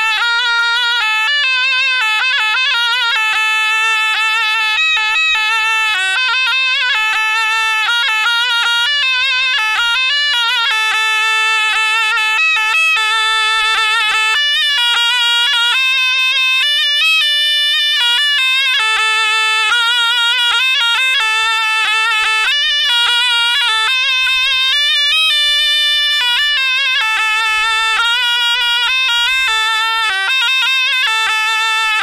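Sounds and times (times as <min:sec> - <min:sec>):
zurna melody: 0:00.0 - 0:32.0.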